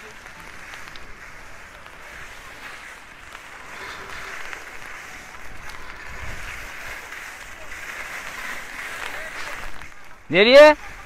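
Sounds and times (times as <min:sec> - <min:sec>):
skis scraping on snow: 0:00.0 - 0:11.0.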